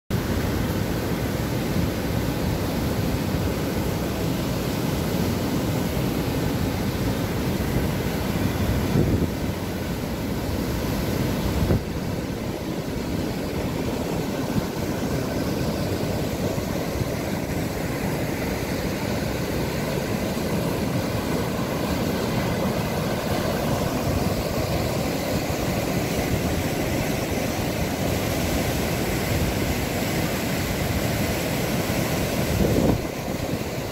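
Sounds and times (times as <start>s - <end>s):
water rushing over rocks: 0.1s - 33.9s.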